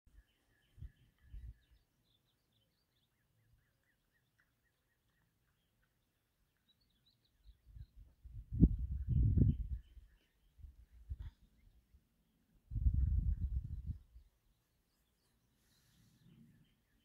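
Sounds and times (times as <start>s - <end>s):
songbirds chirping: 0.1s - 17.0s.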